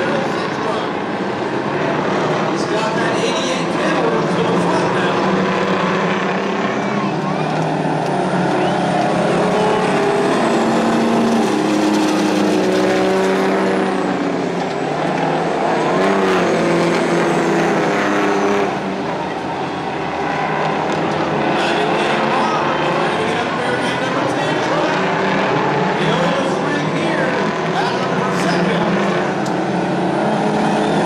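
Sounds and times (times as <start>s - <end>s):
racing truck engines: 0.0s - 31.0s.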